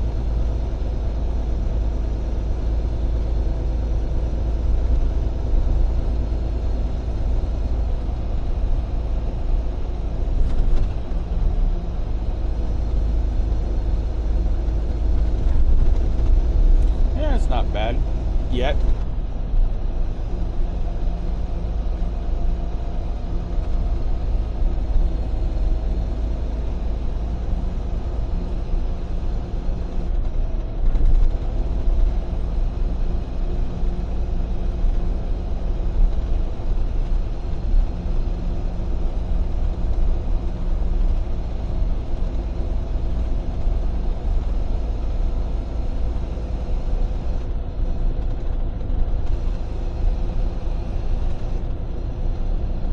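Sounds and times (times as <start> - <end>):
diesel engine drone: 0.0 - 52.9
road and tyre rumble: 0.0 - 52.9.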